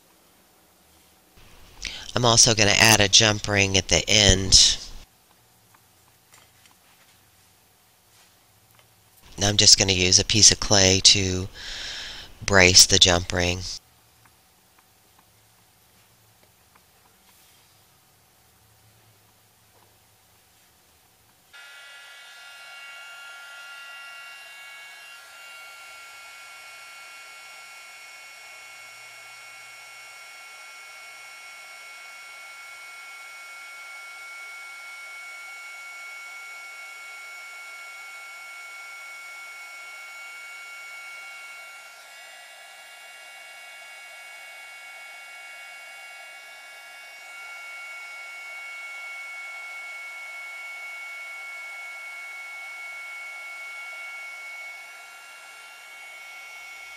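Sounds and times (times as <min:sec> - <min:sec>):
heat gun fan whining: 0:00.9 - 0:05.1, 0:08.7 - 0:56.9.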